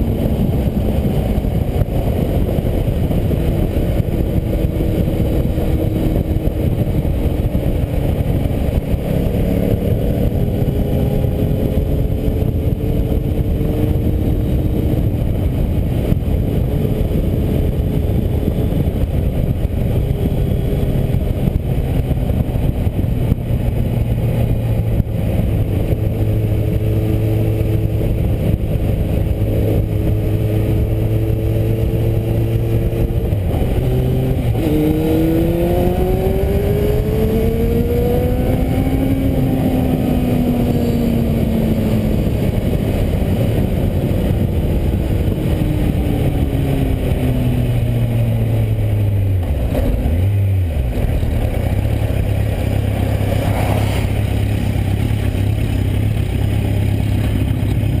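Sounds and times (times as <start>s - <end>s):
motorcycle engine: 0.0s - 58.0s
wind rush over camera: 0.0s - 58.0s.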